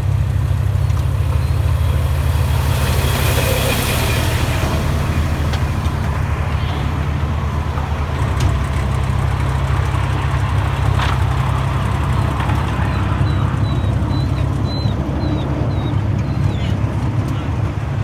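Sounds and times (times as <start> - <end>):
miniature locomotive rumbling: 0.0 - 18.0.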